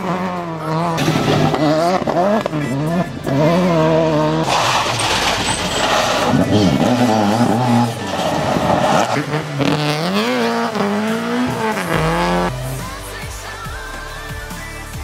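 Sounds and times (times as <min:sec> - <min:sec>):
rally car engine revving: 0:00.0 - 0:14.3.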